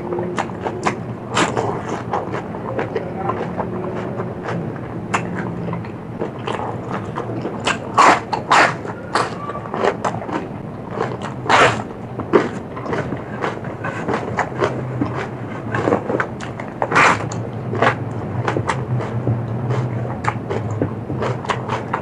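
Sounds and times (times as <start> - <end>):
person chewing food: 0.0 - 22.0
steady low hum: 0.0 - 22.0.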